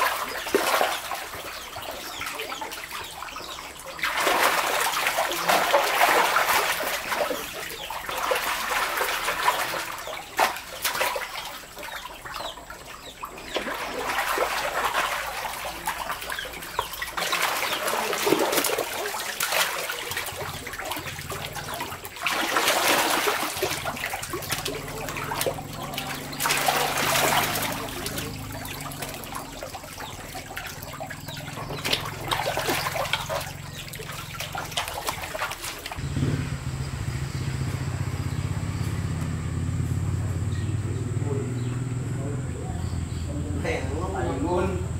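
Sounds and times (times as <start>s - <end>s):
fish thrashing in water: 0.0s - 36.1s
shallow water splashing: 0.0s - 36.1s.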